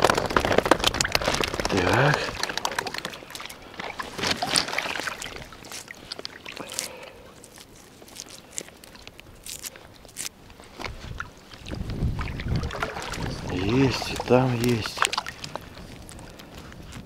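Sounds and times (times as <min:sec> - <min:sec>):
seawater sloshing and dripping: 0:00.1 - 0:09.1, 0:10.8 - 0:16.8.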